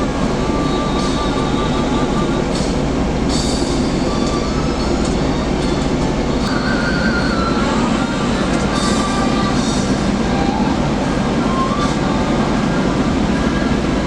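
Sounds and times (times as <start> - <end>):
bus road and engine rumble: 0.0 - 14.0.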